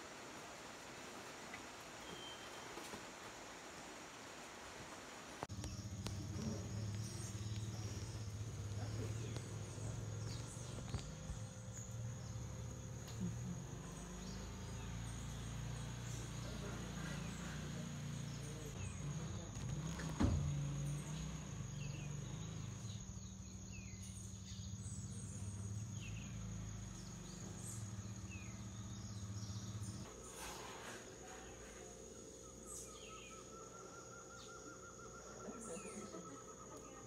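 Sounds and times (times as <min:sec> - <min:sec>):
moth wings humming: 0:05.4 - 0:37.0
steady high insect tone: 0:05.5 - 0:19.6, 0:20.2 - 0:37.0
trilling insect call: 0:05.5 - 0:37.0.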